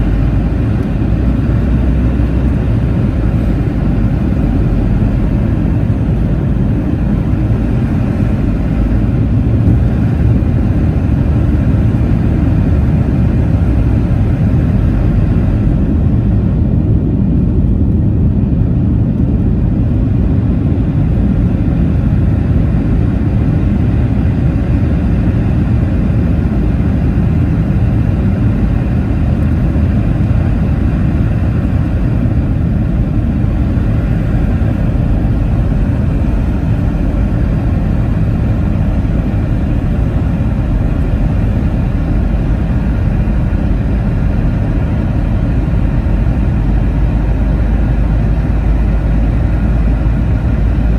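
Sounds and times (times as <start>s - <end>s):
airplane cabin rumble: 0.0s - 50.9s.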